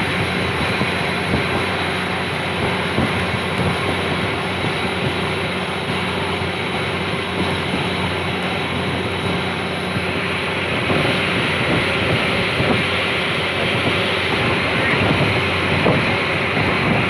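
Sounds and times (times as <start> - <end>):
boat engine humming: 0.0 - 17.0
rushing water: 0.0 - 17.0
wind: 0.0 - 17.0.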